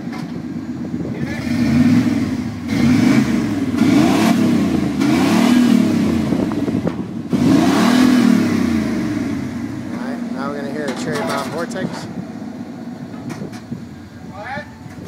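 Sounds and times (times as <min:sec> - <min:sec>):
car engine revving: 0:00.5 - 0:14.0.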